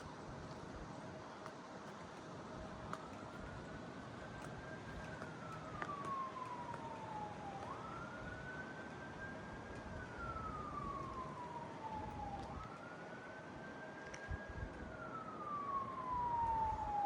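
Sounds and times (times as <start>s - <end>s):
faint emergency siren wailing: 0.0s - 17.0s.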